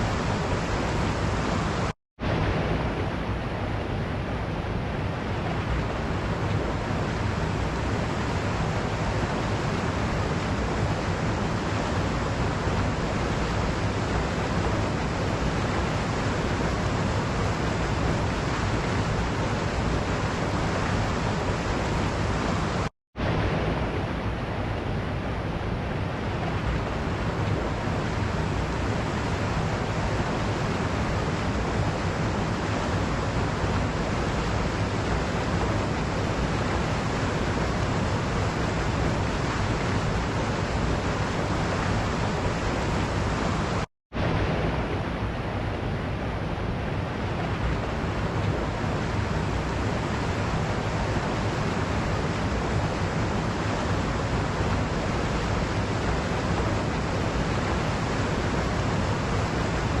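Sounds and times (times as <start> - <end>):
waterfall roaring: 0.0 - 60.0.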